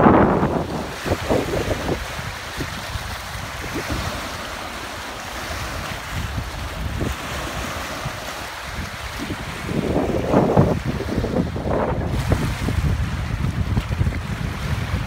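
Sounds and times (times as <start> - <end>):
waves washing along shore: 0.0 - 15.0
wind buffeting microphone: 0.0 - 15.0.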